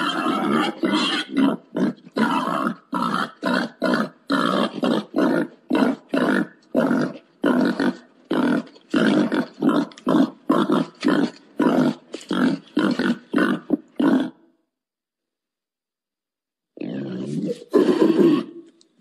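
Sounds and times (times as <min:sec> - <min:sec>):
wild boar grunting calls: 0:00.0 - 0:14.5, 0:16.8 - 0:18.8.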